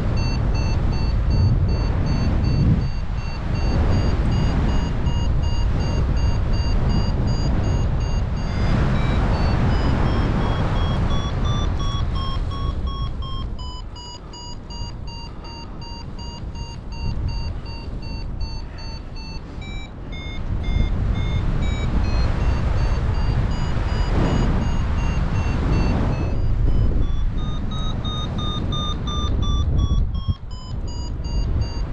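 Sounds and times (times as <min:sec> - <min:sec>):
variometer beeping: 0:00.0 - 0:31.9
wind rushing over microphone: 0:00.0 - 0:31.9.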